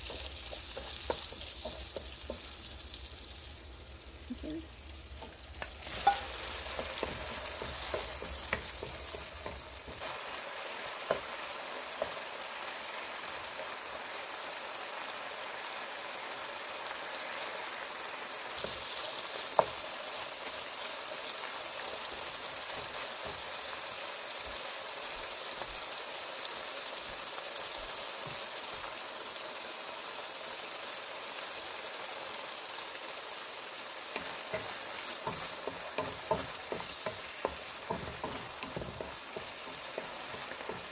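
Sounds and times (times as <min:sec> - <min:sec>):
chicken sizzling in a frying pan: 0:00.0 - 0:40.9.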